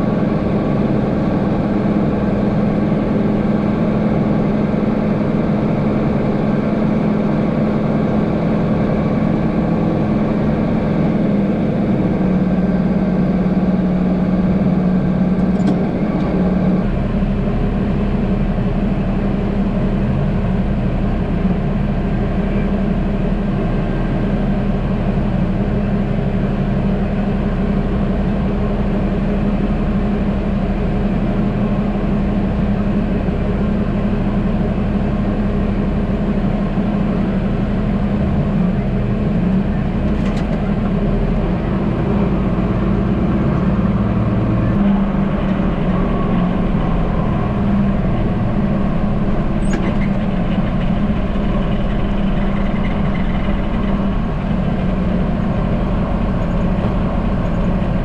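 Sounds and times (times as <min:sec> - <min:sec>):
tractor diesel engine running: 0:00.0 - 0:58.0
deep low rumble: 0:09.0 - 0:58.0.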